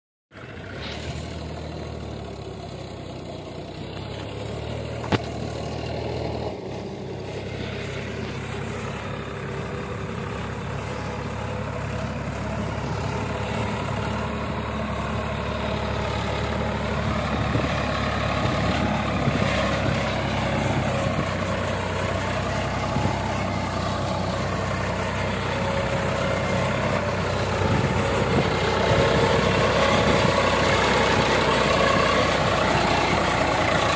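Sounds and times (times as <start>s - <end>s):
tractor diesel engine: 0.3s - 33.9s.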